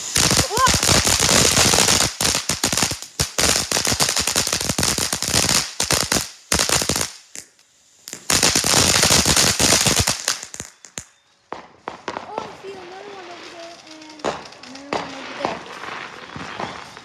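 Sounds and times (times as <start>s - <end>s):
firework spraying sparks with popping: 0.0s - 17.0s.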